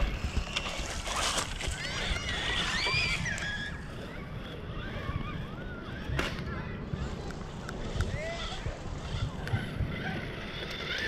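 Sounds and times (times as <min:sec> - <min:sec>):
electric motor whining: 0:00.0 - 0:11.0
wind rumble on microphone: 0:00.0 - 0:11.0.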